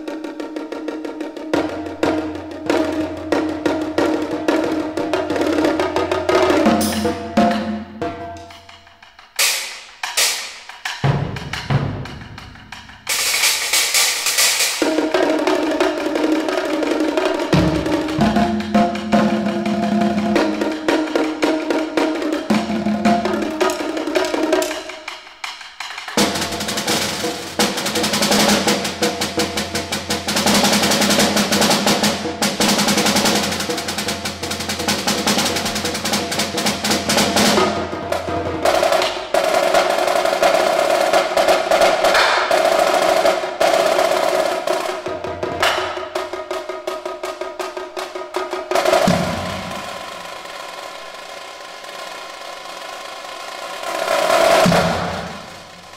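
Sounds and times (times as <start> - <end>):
fast dense drumming: 0.0 - 55.9.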